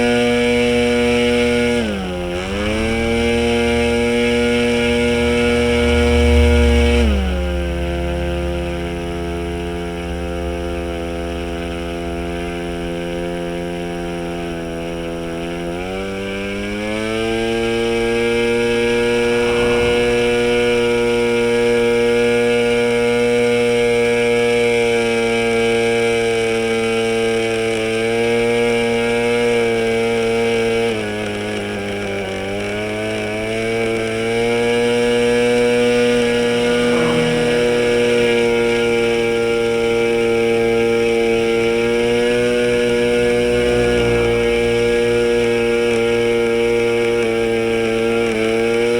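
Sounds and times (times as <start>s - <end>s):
model engine buzzing: 0.0s - 48.9s.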